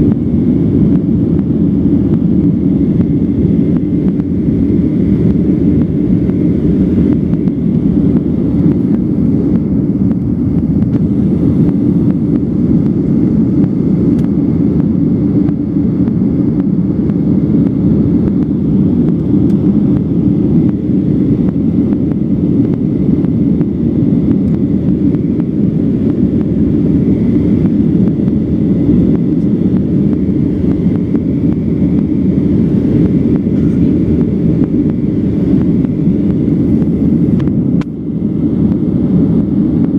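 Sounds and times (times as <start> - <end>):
faint steady whine: 0.0 - 39.9
jet engine cabin rumble: 0.0 - 39.9.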